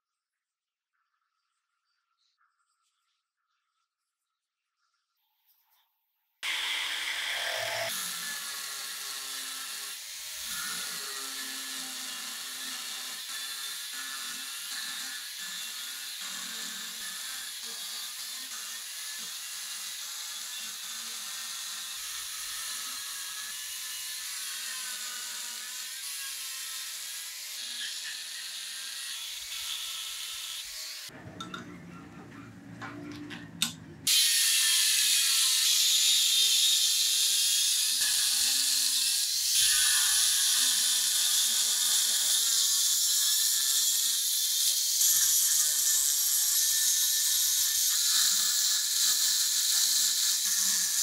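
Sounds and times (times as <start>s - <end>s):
angle grinder cutting steel: 6.4s - 51.0s.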